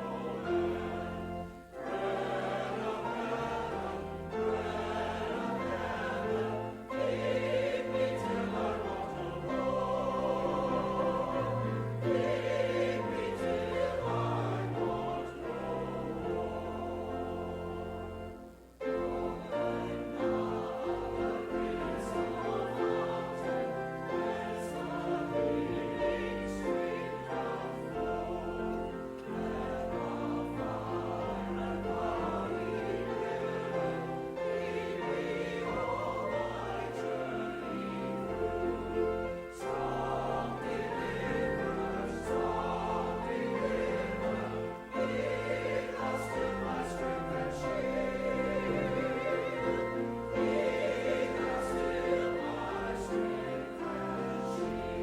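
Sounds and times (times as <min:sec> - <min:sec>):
church choir singing: 0:00.0 - 0:55.0
keyboard accompaniment: 0:00.0 - 0:55.0.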